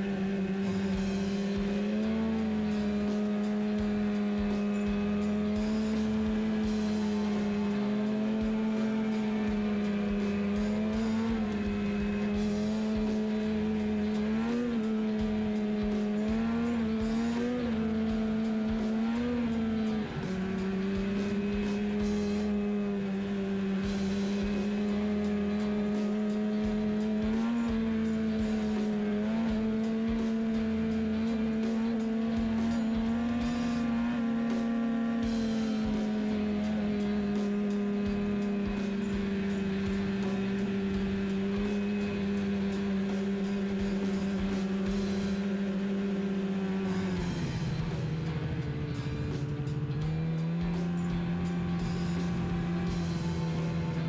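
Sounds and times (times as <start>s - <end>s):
music with a regular beat: 0.0s - 22.6s, 23.8s - 45.5s, 46.9s - 54.0s
snowmobile two-stroke engine running: 0.0s - 54.0s.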